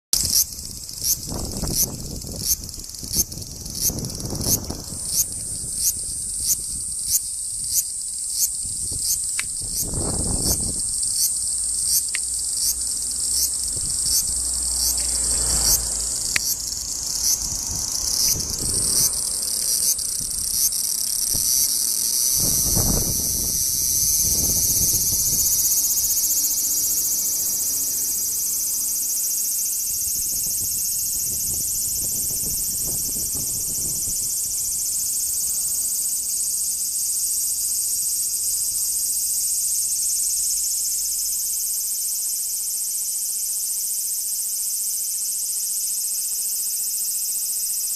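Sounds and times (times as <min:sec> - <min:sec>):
cicada buzzing: 0:00.2 - 0:47.9.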